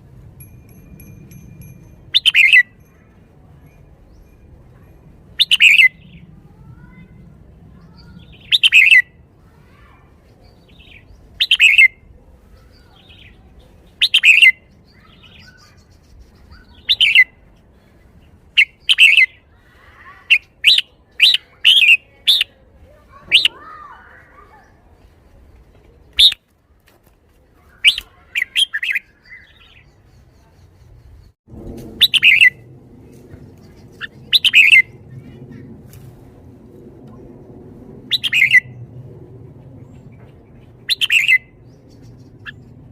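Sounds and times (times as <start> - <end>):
bird singing clear phrases: 0.9 - 36.1, 38.0 - 38.8, 39.7 - 42.9.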